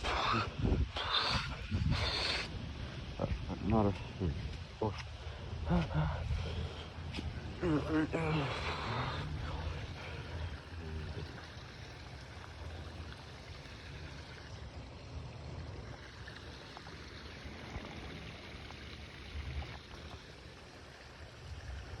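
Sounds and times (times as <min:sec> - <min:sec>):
water rushing in a stream: 0:00.0 - 0:22.0.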